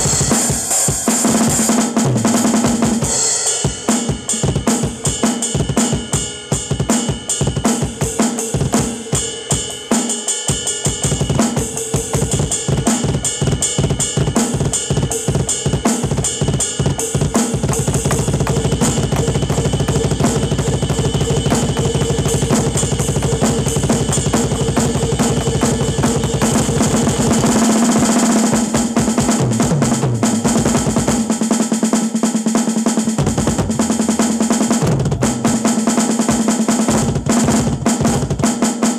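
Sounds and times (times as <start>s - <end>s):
drum kit solo: 0.0s - 38.9s.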